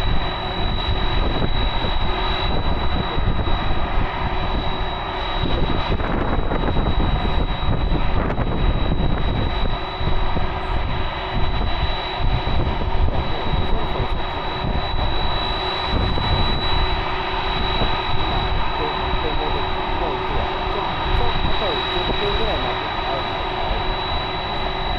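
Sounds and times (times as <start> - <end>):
high whine: 0.0 - 24.9
jet engines rumbling: 0.0 - 24.9.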